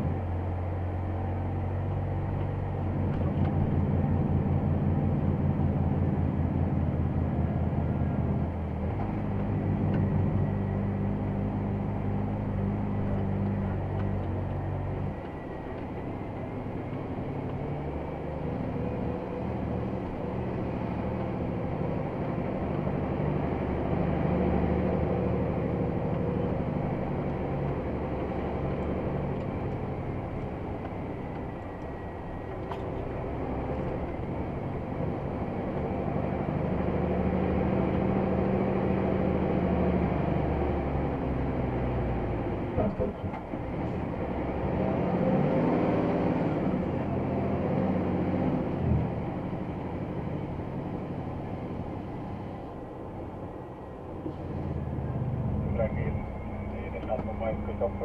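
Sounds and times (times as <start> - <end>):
diesel truck engine under load: 0.0 - 58.0.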